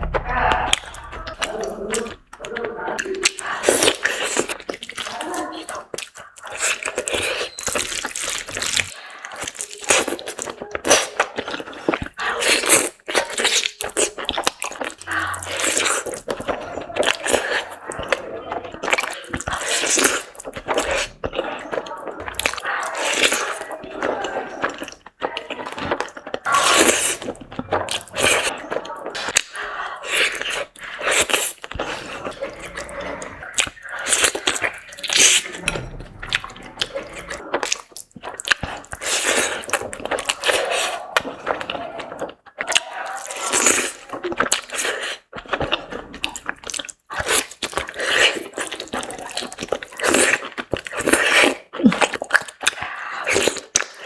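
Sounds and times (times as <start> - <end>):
wet chewing and crunching: 0.0 - 54.0.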